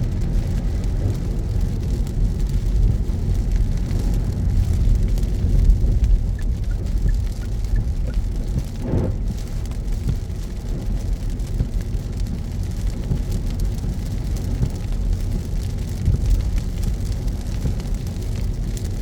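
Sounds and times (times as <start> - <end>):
car engine and road rumble: 0.0 - 19.0
rain pattering on car: 0.0 - 19.0.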